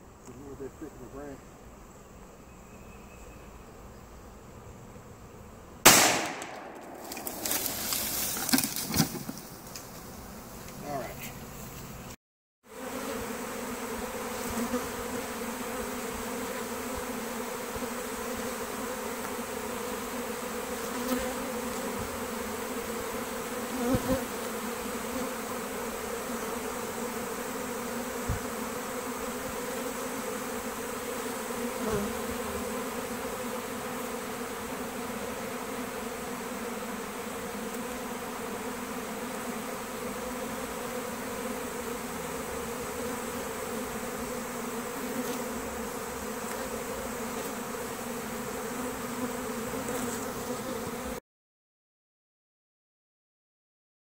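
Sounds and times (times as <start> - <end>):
bees humming: 0.0 - 51.2.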